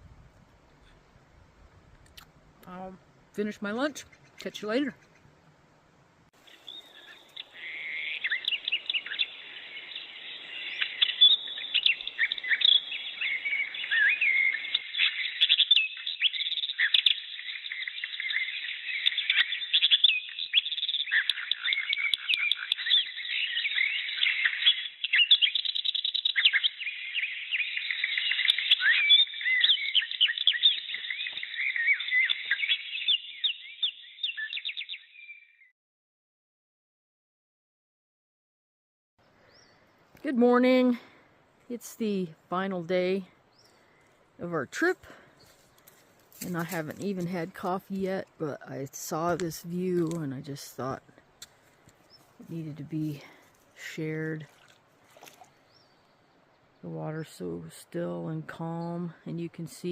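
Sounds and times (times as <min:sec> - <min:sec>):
chorus of birds chirping: 0:06.4 - 0:35.7, 0:39.2 - 0:41.3, 0:41.9 - 0:54.5, 0:55.2 - 0:59.9.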